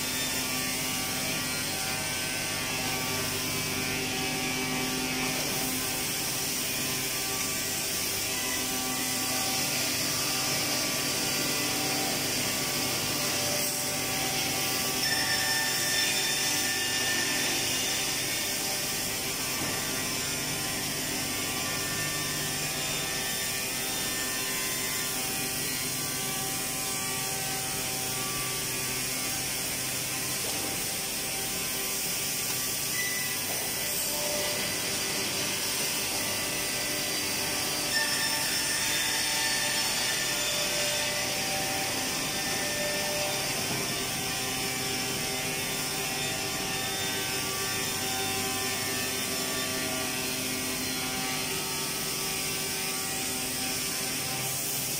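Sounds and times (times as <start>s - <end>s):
woodworking machinery humming: 0.0s - 54.9s.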